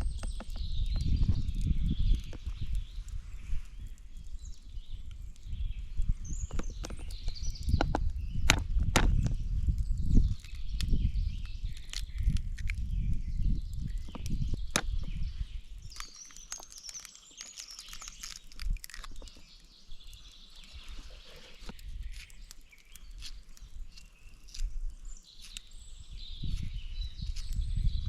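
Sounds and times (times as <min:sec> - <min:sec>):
small birds twittering: 0:00.0 - 0:28.0.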